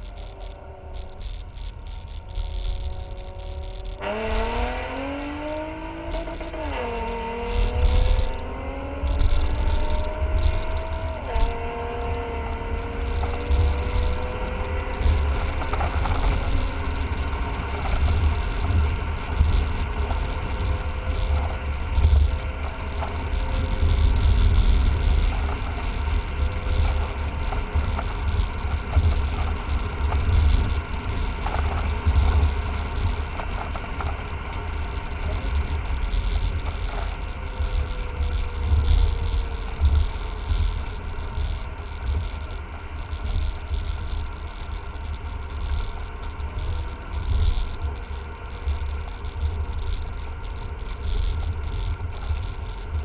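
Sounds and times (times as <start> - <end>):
car engine revving: 0.0 - 53.0
gear upshifts: 0.0 - 53.0
low road and wind rumble: 0.0 - 53.0.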